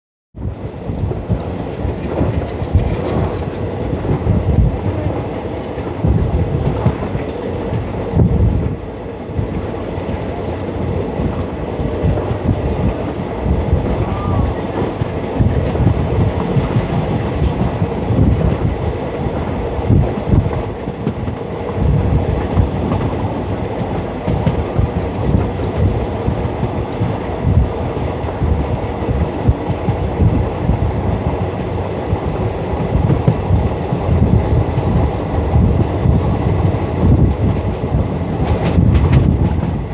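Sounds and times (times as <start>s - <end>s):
train wheels rumbling on track: 0.4s - 39.9s.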